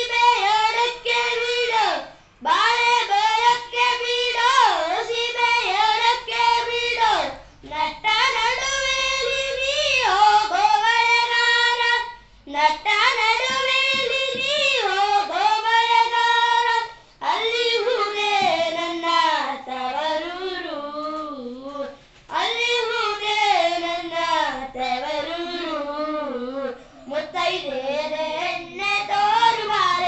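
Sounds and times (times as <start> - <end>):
boy singing unaccompanied: 0.0 - 30.0.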